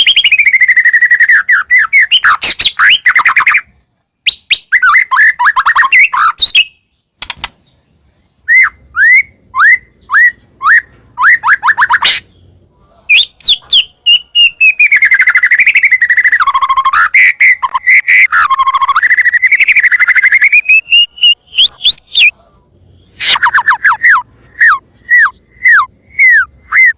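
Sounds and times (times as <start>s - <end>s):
shama birdsong: 0.0s - 26.9s.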